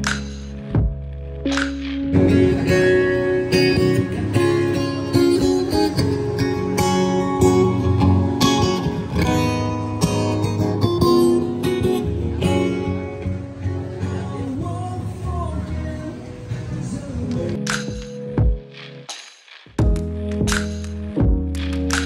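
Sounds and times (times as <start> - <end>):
acoustic guitar strumming: 0.0 - 19.1.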